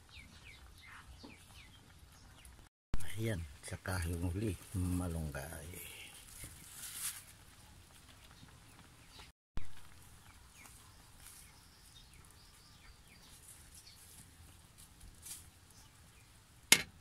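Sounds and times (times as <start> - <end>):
faint bird and chicken chirps: 0.0 - 3.2, 5.7 - 16.6.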